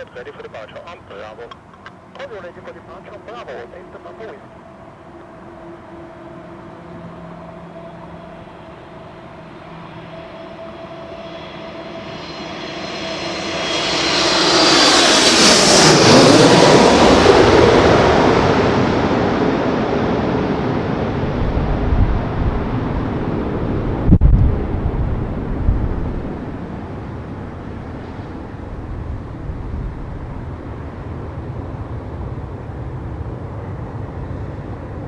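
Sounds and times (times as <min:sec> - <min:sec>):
jet airliner passing overhead: 0:00.0 - 0:35.0.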